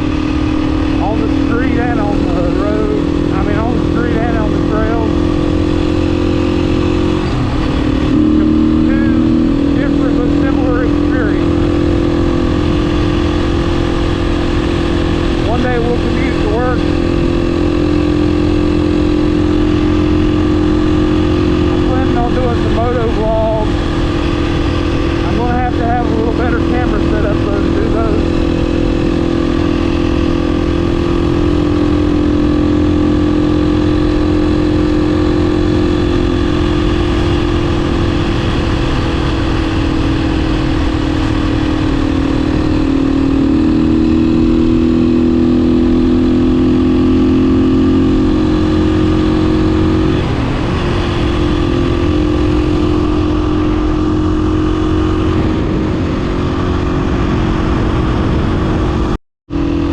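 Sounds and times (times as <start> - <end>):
motorcycle engine running: 0.0 - 59.9
steady rushing noise: 0.0 - 59.9.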